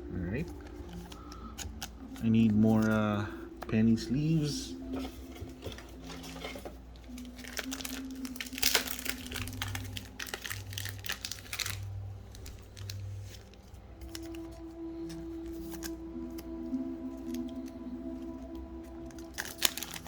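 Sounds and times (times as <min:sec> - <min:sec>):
plastic packaging crinkling: 0:00.3 - 0:20.0.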